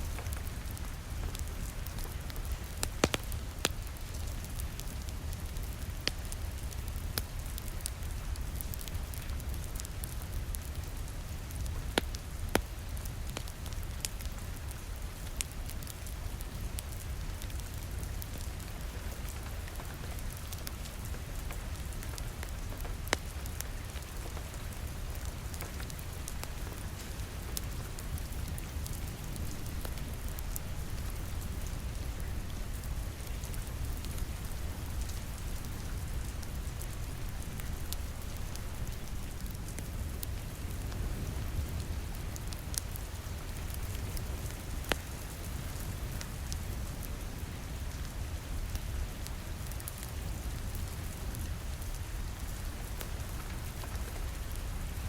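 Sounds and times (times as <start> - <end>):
rain on a window: 0.0 - 55.0
wood fire crackling: 0.0 - 55.0.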